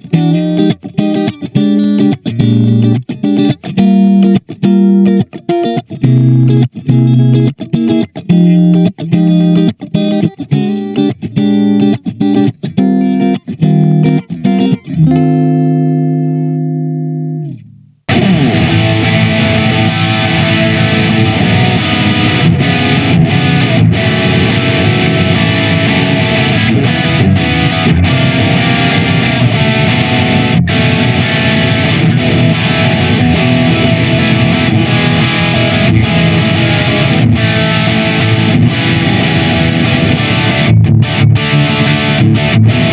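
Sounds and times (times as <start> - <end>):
distorted electric guitar playing: 0.0 - 42.9
electric guitar picked notes: 0.0 - 42.9.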